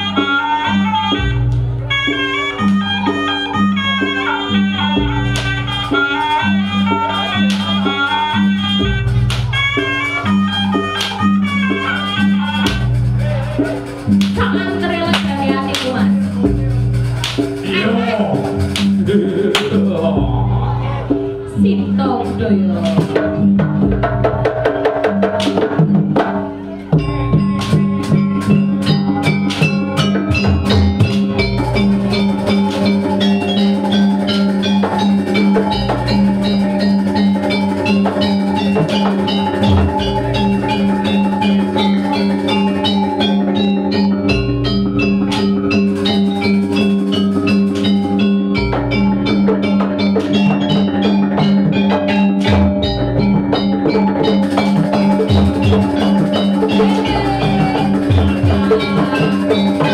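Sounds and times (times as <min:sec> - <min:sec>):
gamelan music: 0:00.0 - 0:59.9.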